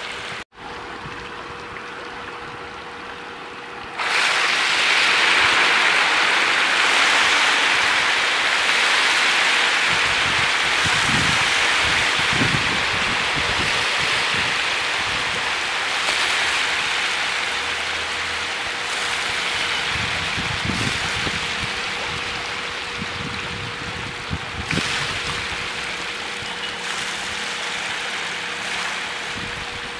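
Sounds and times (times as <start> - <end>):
fish splashing at water surface: 3.9 - 23.0, 24.3 - 29.9.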